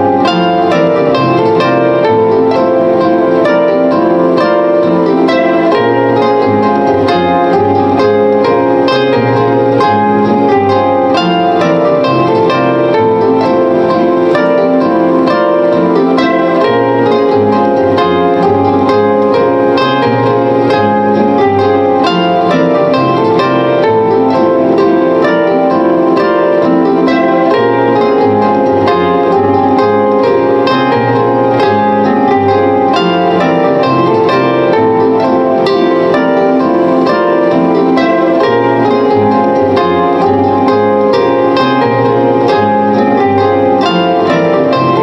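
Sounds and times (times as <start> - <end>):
low bass line: 0.0 - 45.0
plucked string instrument: 0.0 - 45.0.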